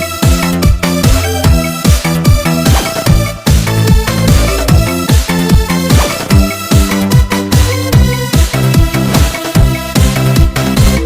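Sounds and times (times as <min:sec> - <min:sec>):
electronic dance music: 0:00.0 - 0:11.0
steady kick drum: 0:00.7 - 0:11.0.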